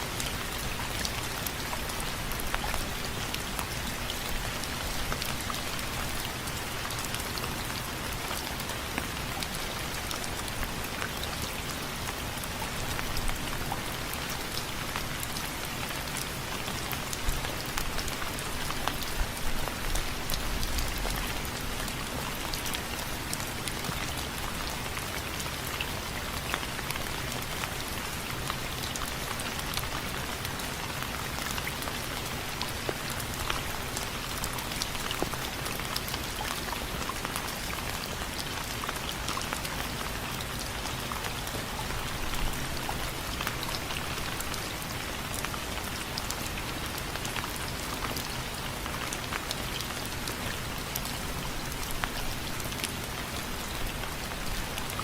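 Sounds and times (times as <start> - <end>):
rain on a window frame: 0.0 - 55.0.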